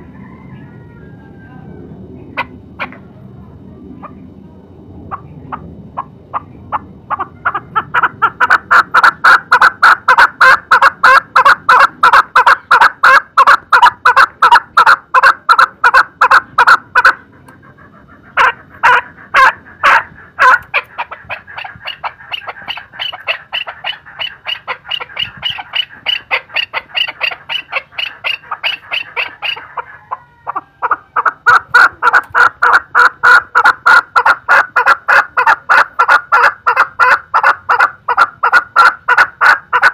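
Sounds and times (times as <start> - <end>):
partridge clucking calls: 5.1 - 39.9.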